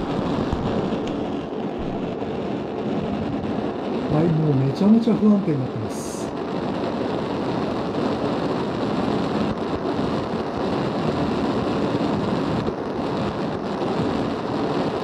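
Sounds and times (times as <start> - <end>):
stove vapour jet rushing: 0.0 - 15.0.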